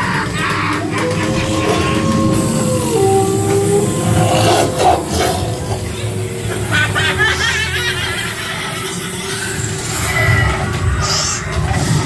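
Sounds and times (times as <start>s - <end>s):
whining tones: 0.0s - 11.8s
ride car rumbling on track: 0.0s - 12.0s.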